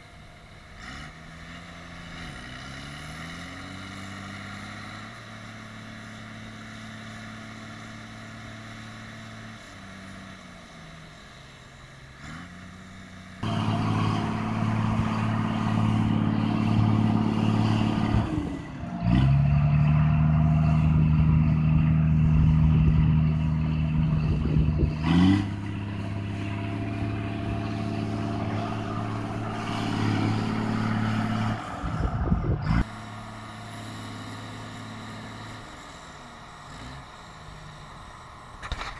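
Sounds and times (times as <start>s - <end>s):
diesel tractor engines revving: 0.0s - 38.9s.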